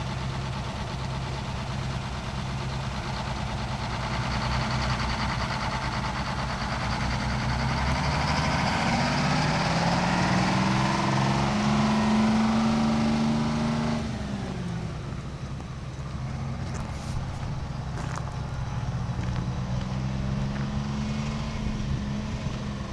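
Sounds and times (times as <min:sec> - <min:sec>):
diesel engine revving: 0:00.0 - 0:22.9.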